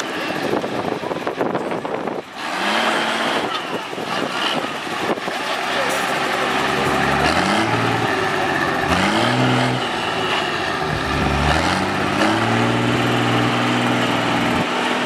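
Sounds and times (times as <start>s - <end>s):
engine revving hard: 2.3s - 15.0s.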